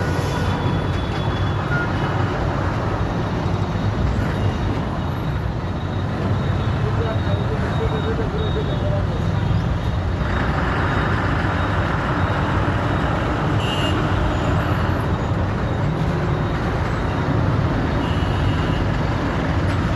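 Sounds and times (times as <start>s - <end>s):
heavy trucks rumbling: 0.0s - 19.9s
tyre and traffic noise: 0.0s - 19.9s.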